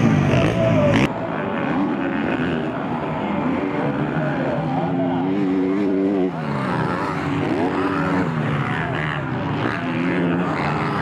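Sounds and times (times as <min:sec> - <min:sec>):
motorbike engines revving: 0:00.0 - 0:11.0.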